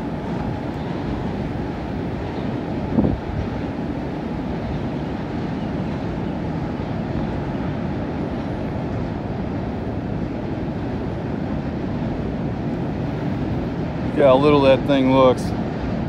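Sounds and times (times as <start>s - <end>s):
distant freight train rumbling: 0.0s - 16.0s.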